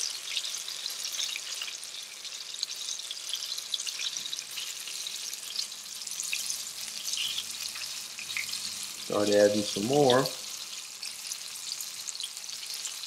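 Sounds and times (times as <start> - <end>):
food shallow-frying in oil: 0.0 - 13.0.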